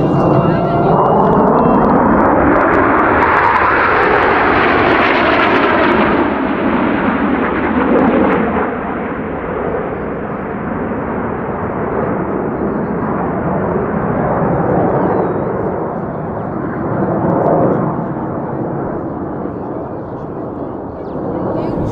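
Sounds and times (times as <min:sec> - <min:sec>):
fighter jets flying overhead: 0:00.0 - 0:21.9.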